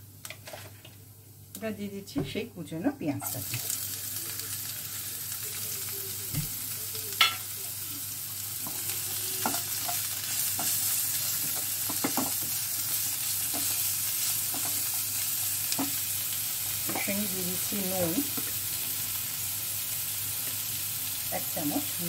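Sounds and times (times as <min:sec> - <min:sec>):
onion sizzling in hot oil: 0:01.6 - 0:22.0.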